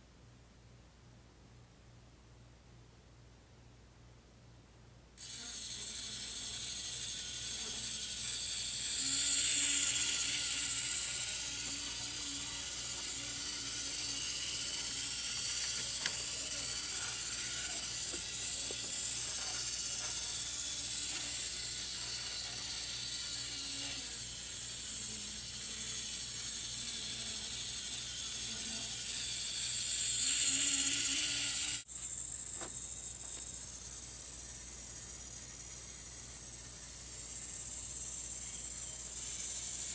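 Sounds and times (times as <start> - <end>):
model bus motor whirring: 5.2 - 39.9.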